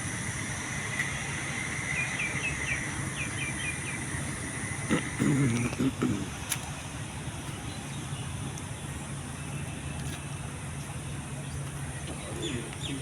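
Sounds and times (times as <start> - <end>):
background noise: 0.0 - 13.0
steady low hum: 0.0 - 13.0.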